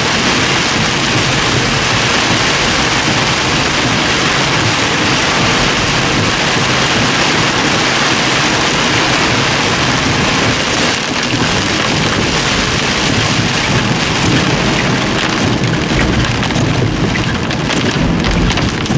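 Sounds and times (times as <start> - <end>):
torrential rain pouring: 0.0 - 18.9.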